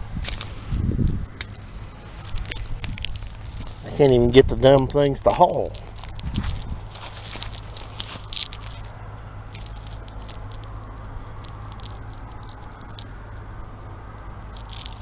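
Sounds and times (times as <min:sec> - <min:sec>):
pods crackling and clicking: 0:00.0 - 0:13.4, 0:14.1 - 0:15.0
steady low rumble: 0:00.0 - 0:15.0.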